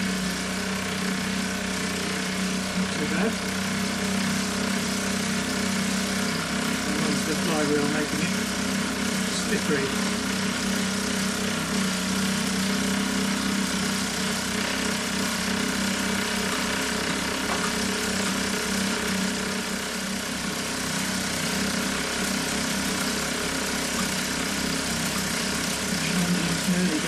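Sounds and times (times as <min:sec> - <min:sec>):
model steam engine running: 0:00.0 - 0:27.0.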